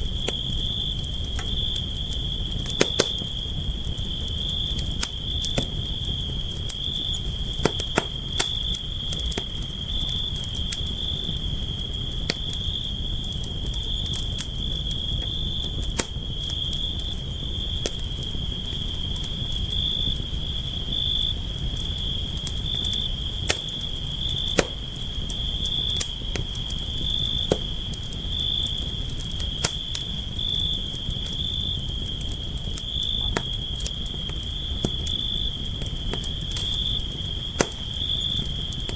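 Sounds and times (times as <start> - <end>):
campfire crackling: 0.0 - 38.9
insects chirring: 0.0 - 38.9.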